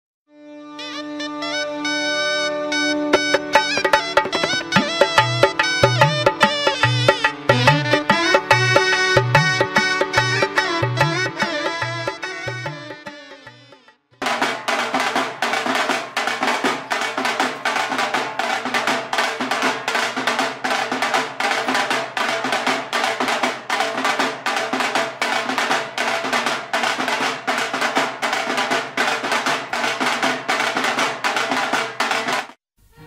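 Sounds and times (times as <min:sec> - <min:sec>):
fast continuous drumming: 0:03.3 - 0:13.2, 0:14.2 - 0:32.6.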